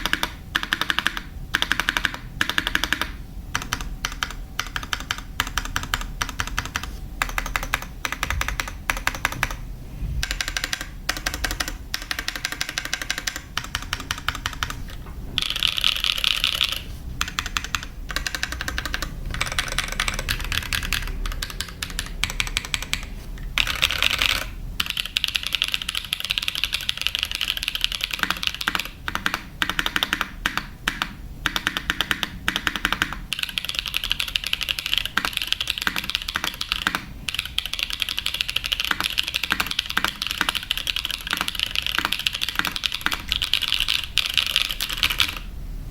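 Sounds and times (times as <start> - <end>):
typing on mechanical keyboard: 0.0 - 9.6, 10.2 - 45.5.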